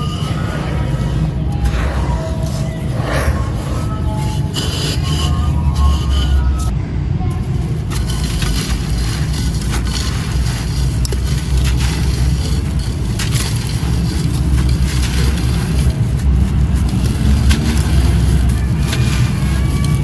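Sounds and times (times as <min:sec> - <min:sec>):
concrete crunching: 0:00.0 - 0:06.7, 0:07.3 - 0:20.0
steady low rumble: 0:00.0 - 0:20.0.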